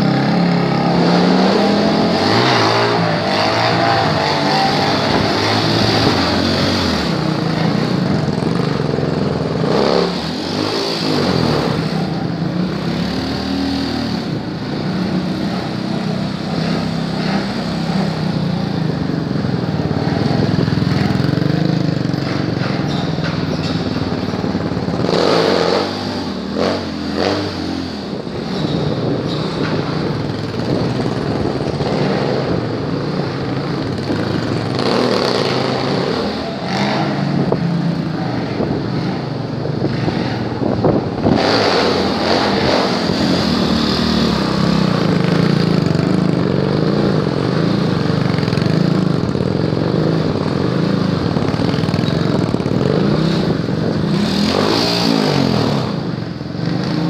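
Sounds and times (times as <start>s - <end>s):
small motorcycle engines revving: 0.0s - 57.0s.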